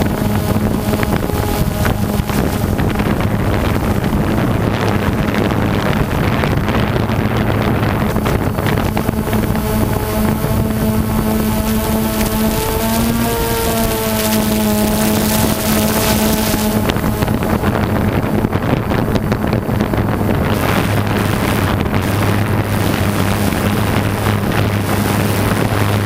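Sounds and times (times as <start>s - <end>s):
model aircraft motor: 0.0s - 26.0s
wind on microphone: 0.0s - 26.0s.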